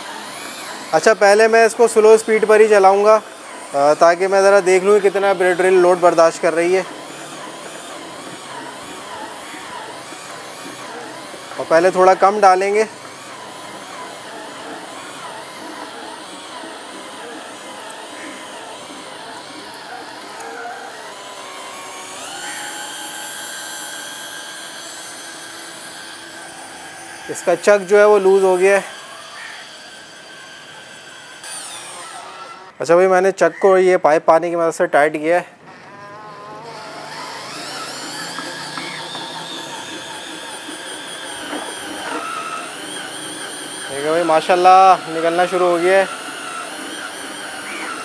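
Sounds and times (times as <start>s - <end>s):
drill motor whine: 0.0s - 32.8s, 35.6s - 48.0s.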